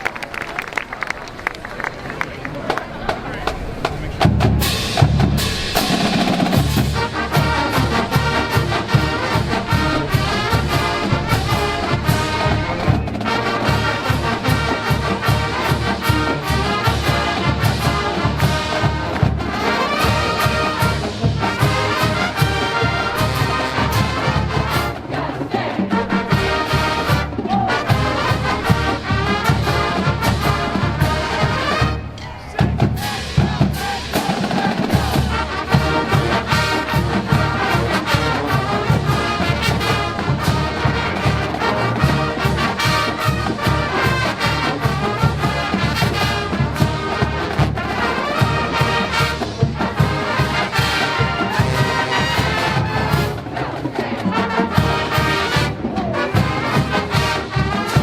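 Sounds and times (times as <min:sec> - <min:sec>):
marching band brass: 0:00.0 - 0:58.0
drumline beat: 0:02.6 - 0:58.0.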